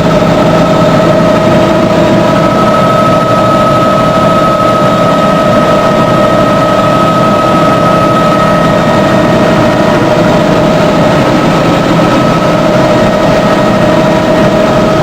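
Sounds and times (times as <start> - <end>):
helicopter engine and rotor drone: 0.0 - 15.0
high whine: 0.0 - 15.0.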